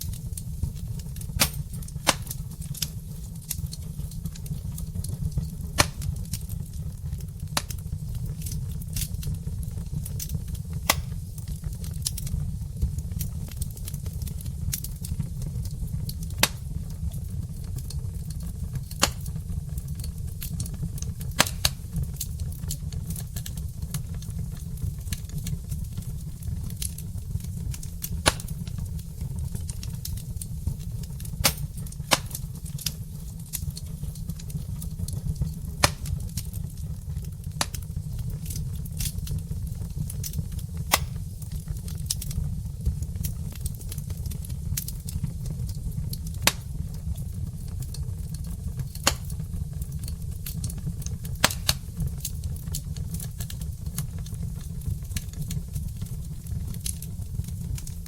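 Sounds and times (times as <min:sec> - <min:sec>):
logs crackling in fireplace: 0:00.0 - 0:58.0.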